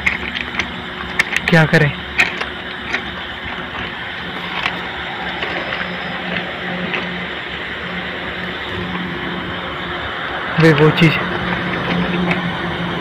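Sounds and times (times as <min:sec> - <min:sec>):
pulsing low hum: 0:00.0 - 0:13.0
road traffic rumble: 0:00.0 - 0:13.0.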